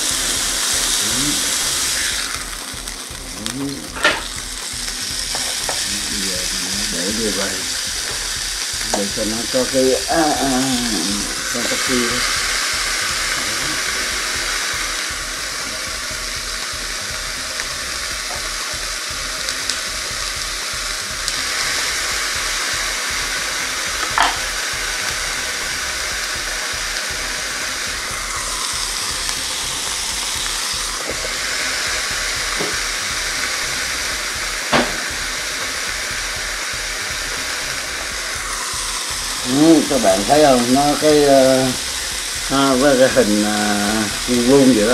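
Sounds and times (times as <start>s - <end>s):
sharp pops of frying meat: 0.0s - 44.9s
steak sizzling in grill press: 0.0s - 44.9s.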